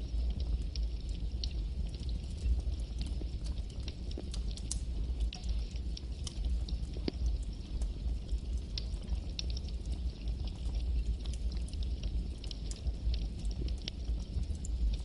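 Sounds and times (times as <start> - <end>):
campfire flames rumbling: 0.0 - 15.0
wood crackling and popping: 0.0 - 15.0.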